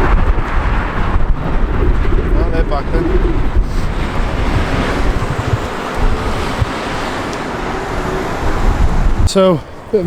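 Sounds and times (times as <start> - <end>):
road traffic rushing: 0.0 - 10.0
wind buffeting microphone: 0.0 - 10.0.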